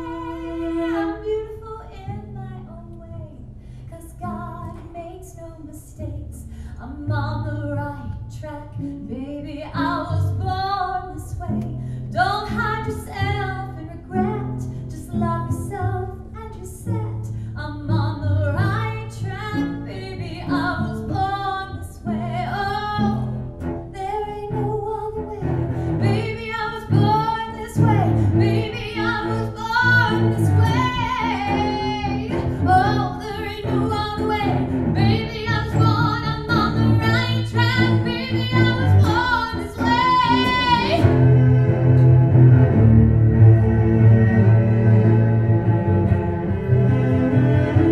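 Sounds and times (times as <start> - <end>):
cello playing: 0.0 - 1.5, 9.8 - 47.9
woman singing: 0.0 - 23.3, 26.0 - 41.1.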